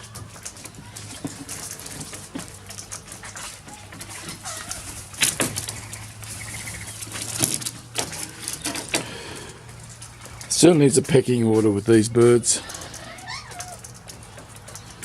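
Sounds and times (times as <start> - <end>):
parrots feeding clicks and taps: 0.0 - 11.7, 12.6 - 15.0.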